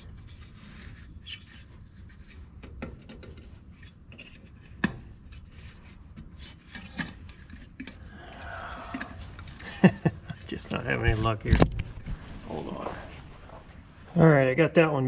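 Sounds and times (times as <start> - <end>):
hands rubbing and scraping plastic: 0.0 - 12.8.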